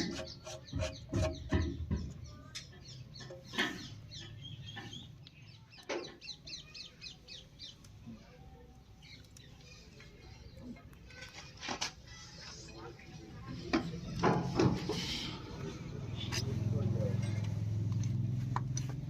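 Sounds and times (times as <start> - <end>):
birds chirping: 0.0 - 17.4.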